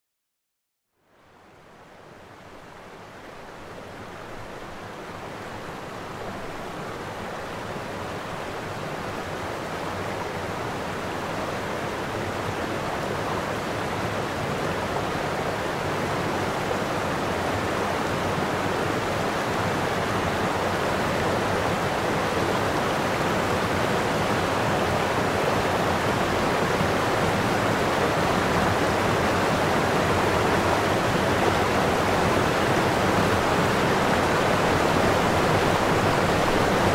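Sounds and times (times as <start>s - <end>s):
water rushing over weir: 2.4s - 36.9s.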